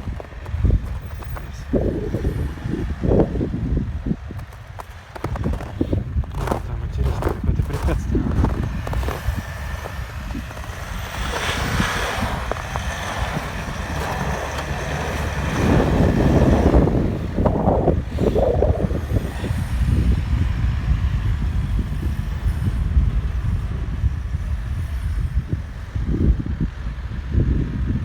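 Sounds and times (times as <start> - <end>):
off-road vehicle engine under load: 0.0 - 28.0
wind noise on microphone: 0.0 - 28.0.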